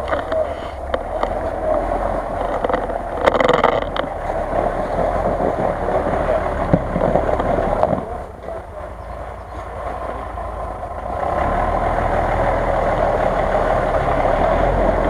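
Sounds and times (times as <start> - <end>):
suv engine running: 0.0 - 15.0.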